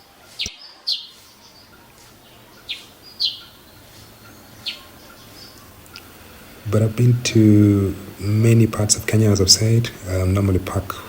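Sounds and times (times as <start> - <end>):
bird calling sharp notes: 0.0 - 11.0
faint background hiss: 0.0 - 11.0.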